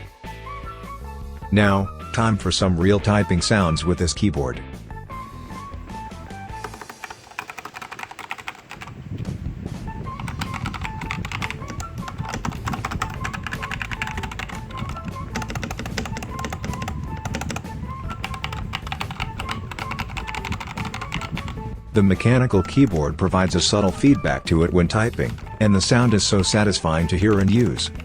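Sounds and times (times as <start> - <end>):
background music: 0.0 - 28.0
mechanical keyboard typing: 5.6 - 28.0.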